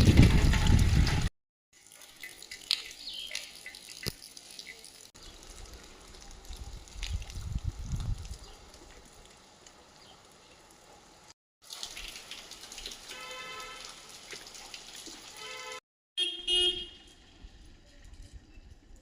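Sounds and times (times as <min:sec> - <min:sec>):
rain pattering: 0:00.0 - 0:15.8.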